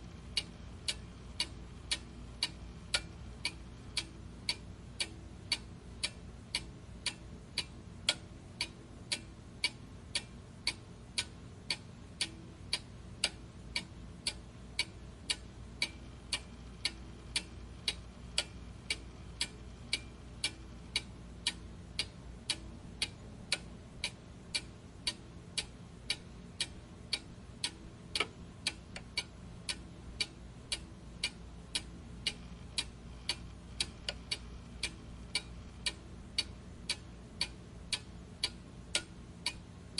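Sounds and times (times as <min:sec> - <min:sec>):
faint low hum: 0:00.0 - 0:39.9
clock ticking: 0:00.3 - 0:39.9.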